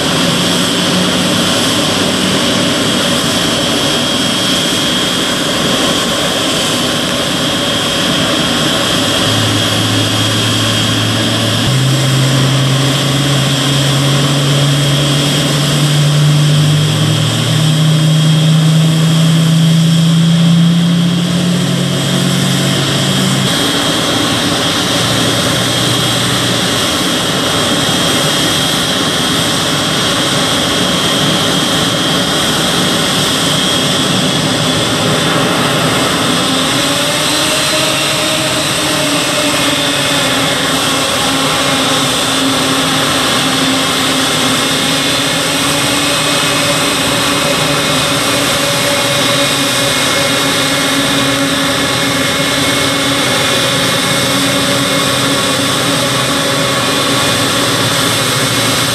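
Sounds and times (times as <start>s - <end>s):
jet noise hiss: 0.0s - 58.9s
jet turbine whine: 0.0s - 58.9s
tug engine drone: 0.0s - 58.9s.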